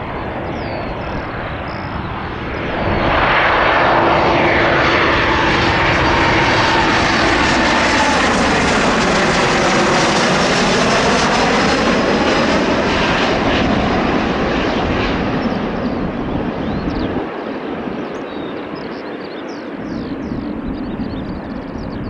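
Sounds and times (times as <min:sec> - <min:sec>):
airliner engine roar: 0:00.0 - 0:22.0.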